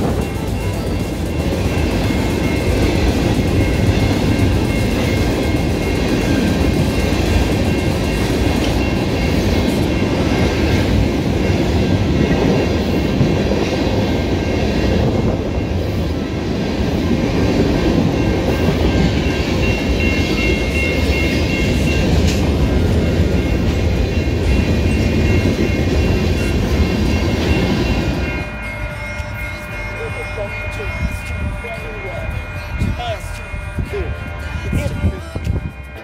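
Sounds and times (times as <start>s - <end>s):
crossing bell ringing: 0.0s - 36.0s
train wheels rumbling on rails: 0.0s - 36.0s.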